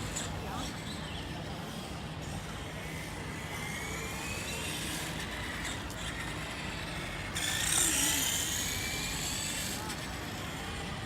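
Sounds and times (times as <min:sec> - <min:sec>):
toy motorcycle motor whining: 0:00.0 - 0:11.0.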